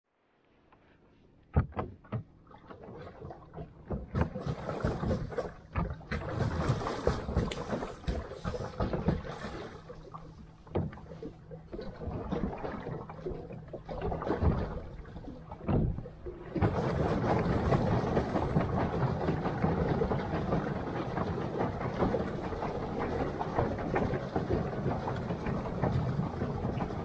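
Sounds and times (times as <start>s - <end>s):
knocks and clunks from boat hull: 1.4s - 27.0s.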